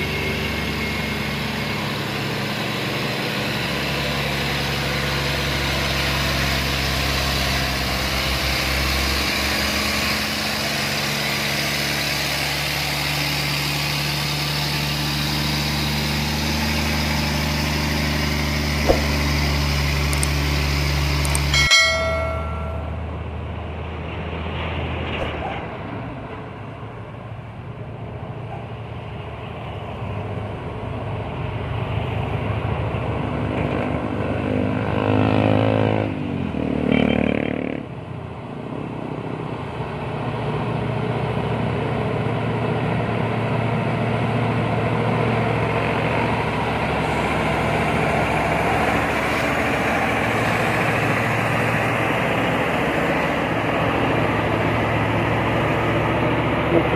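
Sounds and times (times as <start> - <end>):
truck diesel engines droning: 0.0 - 56.9.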